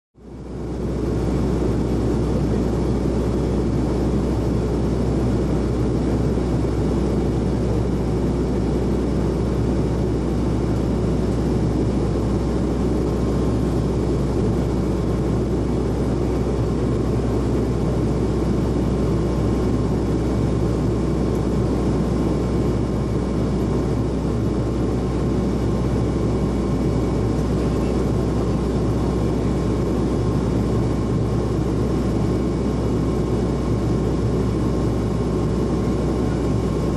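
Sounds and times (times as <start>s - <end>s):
propeller engines droning: 0.2s - 36.9s.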